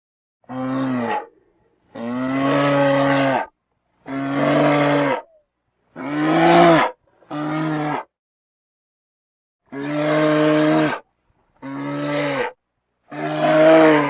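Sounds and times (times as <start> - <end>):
bear low drawn-out calls: 0.4 - 5.4, 6.0 - 8.1, 9.7 - 14.0.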